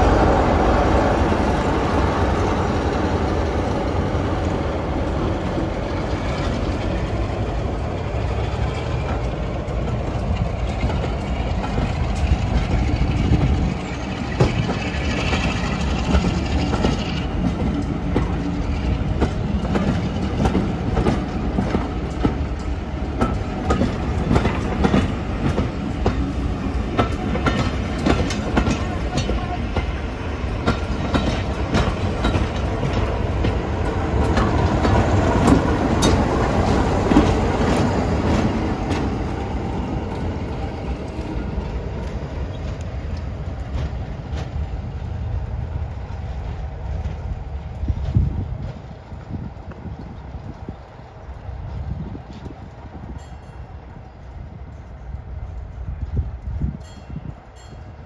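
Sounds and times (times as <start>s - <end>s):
diesel locomotive engine rumble: 0.0s - 58.0s
wheels clicking over rail joints: 0.0s - 58.0s.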